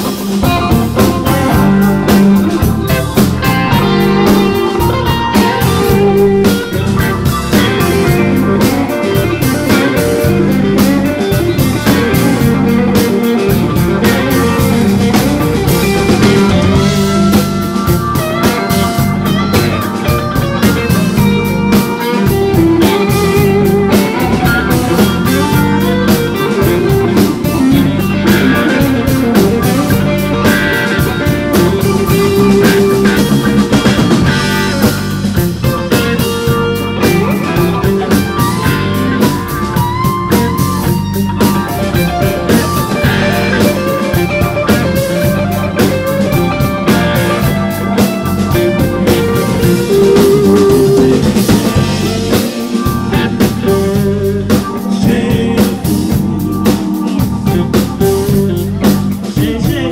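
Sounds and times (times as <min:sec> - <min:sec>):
bass guitar: 0:00.0 - 0:59.9
drum kit: 0:00.0 - 0:59.9
electric guitar lead lines: 0:00.0 - 0:59.9.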